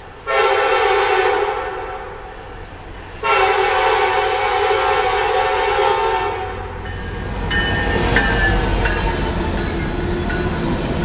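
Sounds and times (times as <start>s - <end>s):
locomotive engine rumble: 0.0s - 11.0s
train wheels on rails: 0.0s - 11.0s.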